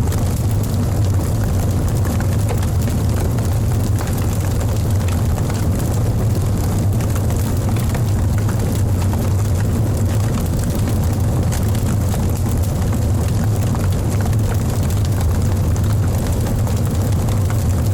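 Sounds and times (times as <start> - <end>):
fire roaring: 0.0 - 17.9
logs crackling and popping: 0.0 - 17.9.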